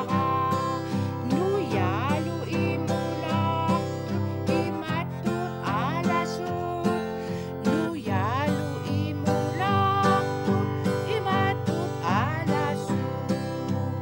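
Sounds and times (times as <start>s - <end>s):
acoustic guitar strumming: 0.0s - 14.0s
woman singing: 0.0s - 14.0s.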